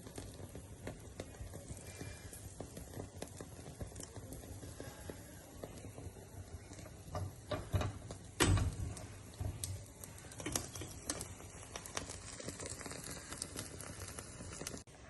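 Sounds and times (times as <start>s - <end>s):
spices rattling in a strainer: 0.0s - 14.8s.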